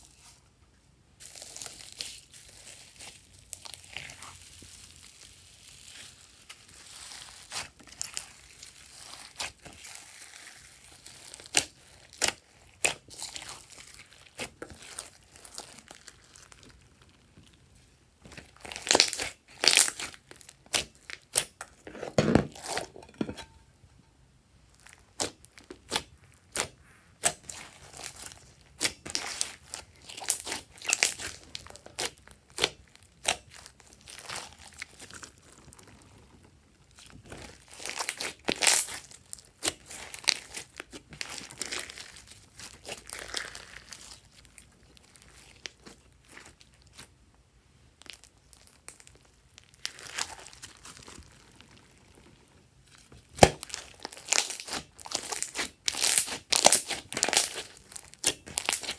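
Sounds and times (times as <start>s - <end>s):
slime crackling and squelching: 1.2s - 23.6s, 24.6s - 58.9s.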